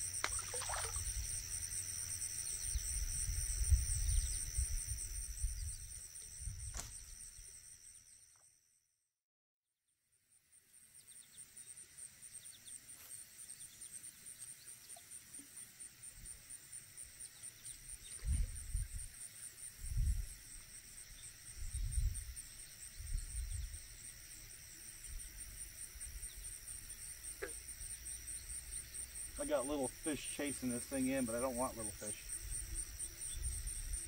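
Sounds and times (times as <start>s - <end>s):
insects trilling: 0.0s - 8.5s, 10.4s - 34.0s.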